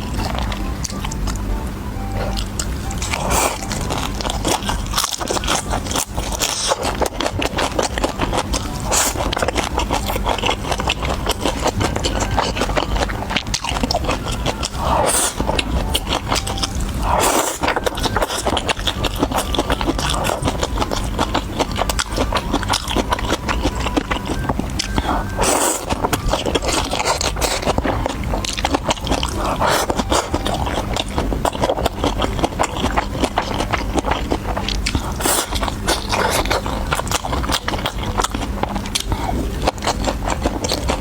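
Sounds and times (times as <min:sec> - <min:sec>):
crunchy chewing: 0:02.2 - 0:41.0.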